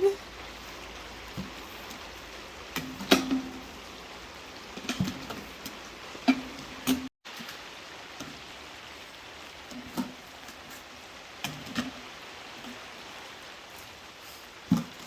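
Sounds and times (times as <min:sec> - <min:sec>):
rain on a greenhouse roof: 0:00.0 - 0:15.0.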